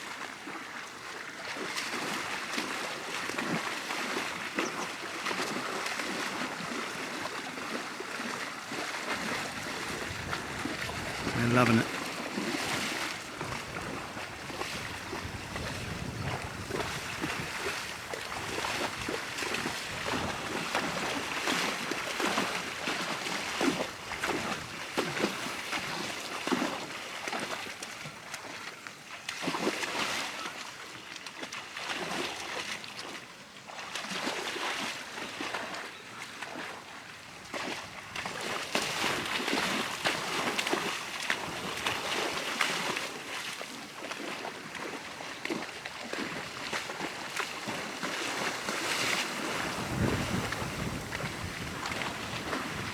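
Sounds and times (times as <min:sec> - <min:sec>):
ponies splashing in water: 0:00.0 - 0:52.9.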